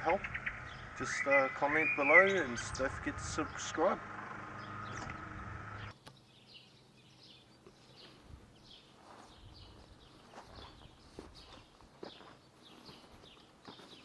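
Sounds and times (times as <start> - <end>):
steady low hum: 0.0 - 11.4
small birds chirping: 0.0 - 14.0.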